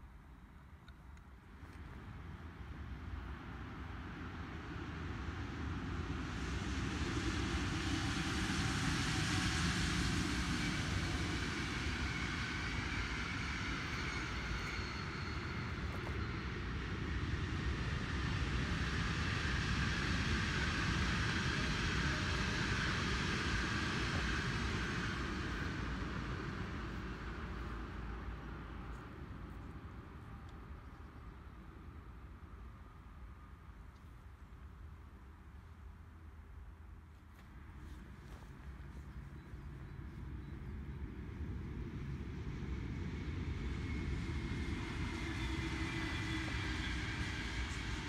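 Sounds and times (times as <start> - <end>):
faint train whine: 0.0 - 48.0
train wheels rushing on rails: 2.0 - 30.4, 37.9 - 48.0.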